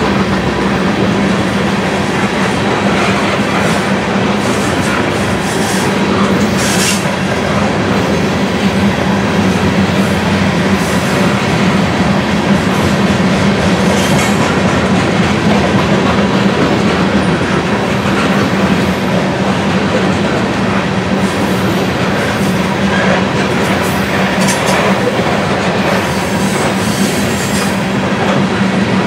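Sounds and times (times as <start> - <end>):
freight train wheels clattering: 0.0 - 29.0.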